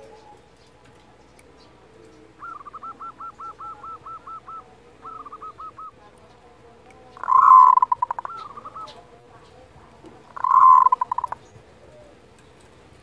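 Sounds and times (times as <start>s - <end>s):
dove calling in clipped notes: 0.0s - 13.0s.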